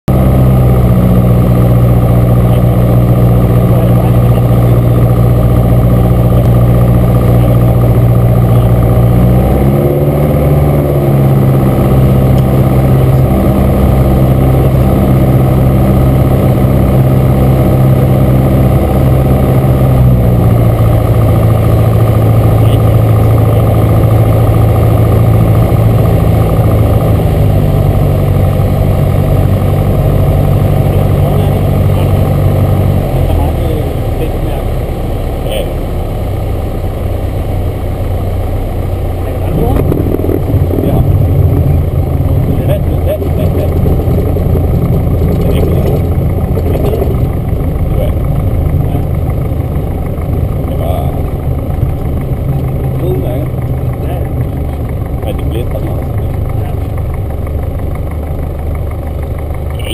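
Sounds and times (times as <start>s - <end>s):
aircraft engine and propeller droning: 0.1s - 59.9s.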